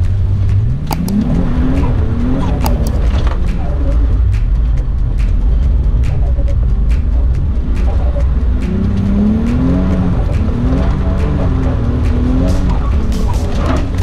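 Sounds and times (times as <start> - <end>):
car engine pulling under load: 0.0 - 14.0
low road rumble: 0.0 - 14.0.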